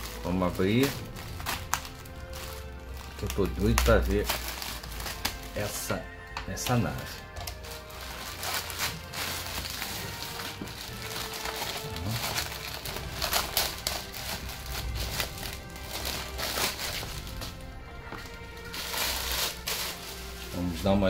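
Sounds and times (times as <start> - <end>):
plastic bag crinkling: 0.0 - 6.0, 6.6 - 20.9
background music: 0.0 - 21.0.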